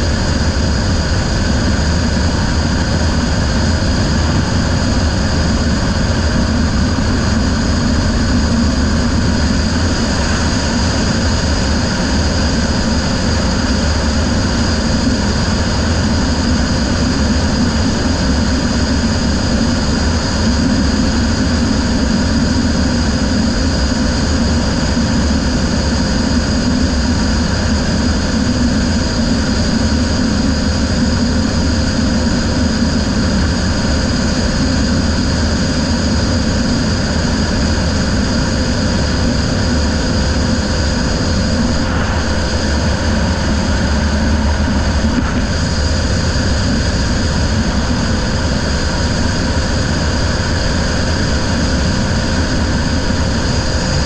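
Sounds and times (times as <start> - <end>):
rushing noise: 0.0 - 22.9, 26.0 - 54.0
boat engine drone: 0.0 - 54.0.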